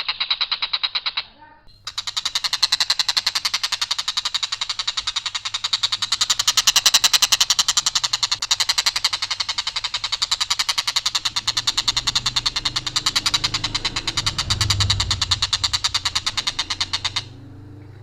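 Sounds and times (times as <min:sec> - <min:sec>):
kingfisher harsh rattling call: 0:00.1 - 0:18.0.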